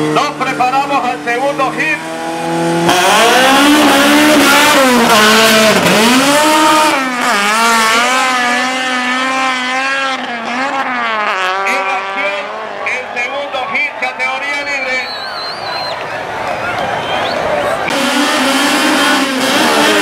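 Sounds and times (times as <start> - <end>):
racing car engines revving: 0.0 - 20.0.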